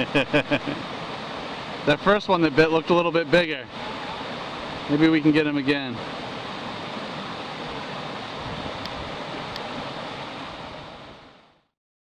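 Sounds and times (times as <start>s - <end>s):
stream flowing over rocks: 0.0s - 11.7s.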